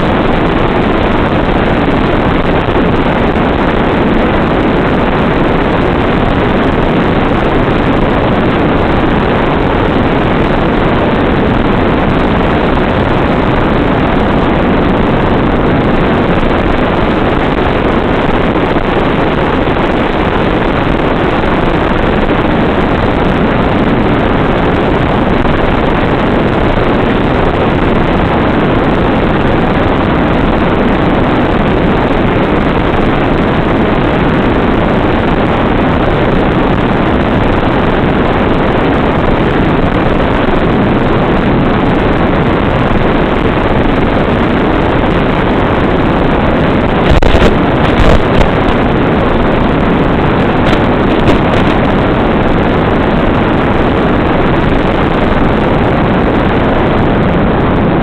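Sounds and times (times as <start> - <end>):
loud wind rushing: 0.0 - 58.0.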